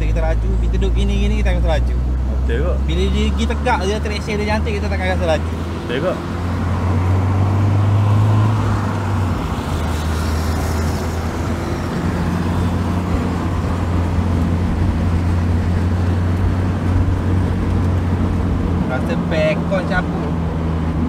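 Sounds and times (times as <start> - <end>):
car engine drone: 0.0 - 21.0
tyre and road noise: 0.0 - 21.0.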